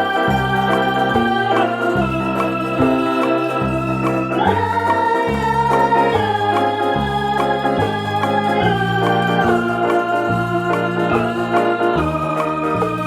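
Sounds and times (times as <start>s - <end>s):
bass line: 0.0s - 13.0s
held keyboard chords: 0.0s - 13.0s.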